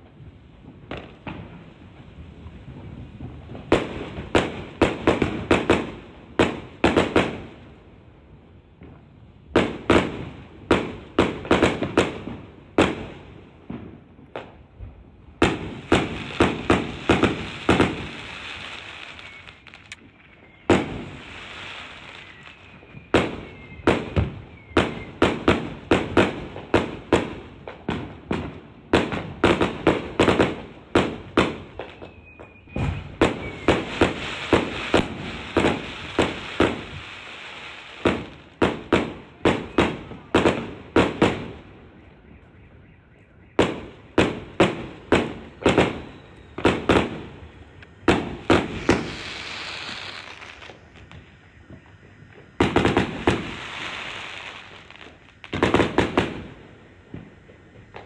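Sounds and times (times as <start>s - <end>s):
fireworks bangs: 0.0s - 7.8s, 8.7s - 58.0s
fireworks crackle: 0.0s - 42.6s, 43.2s - 58.0s
faint fireworks whistles: 0.0s - 58.0s.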